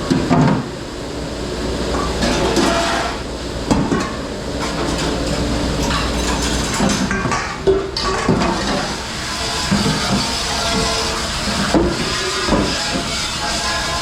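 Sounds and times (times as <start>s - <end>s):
mechanical rumble and hum: 0.0s - 14.0s
dishes and racks clattering: 1.9s - 14.0s.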